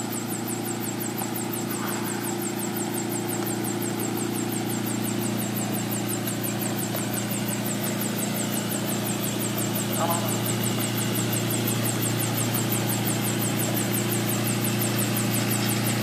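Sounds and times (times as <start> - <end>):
helicopter engine and rotor hum: 0.0 - 16.0.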